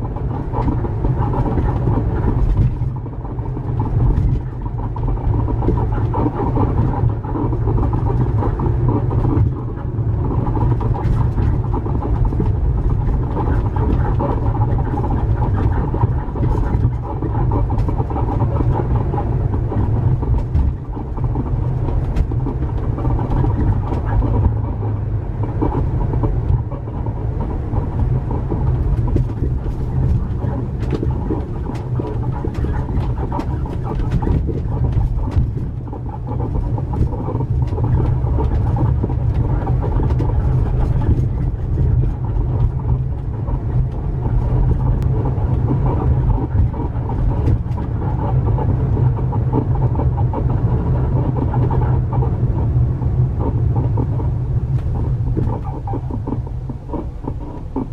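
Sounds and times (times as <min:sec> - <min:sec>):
road rumble: 0:00.0 - 0:57.9
squeaking and creaking suspension: 0:00.0 - 0:57.9.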